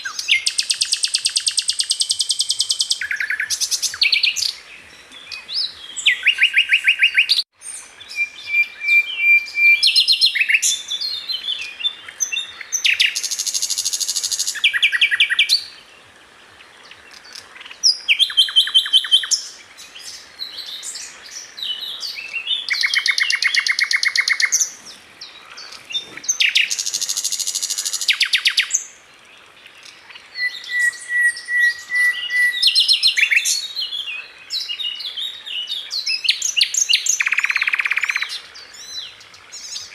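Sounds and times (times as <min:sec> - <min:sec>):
bird singing trills and whistles: 0:00.0 - 0:15.8, 0:17.2 - 0:29.0, 0:29.8 - 0:39.9.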